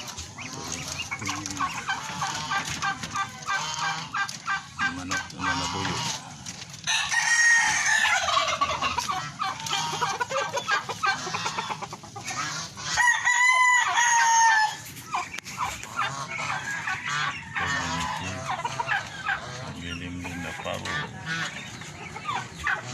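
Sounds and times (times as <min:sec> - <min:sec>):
chickens clucking: 0:00.0 - 0:22.9
roosters crowing: 0:00.0 - 0:22.9.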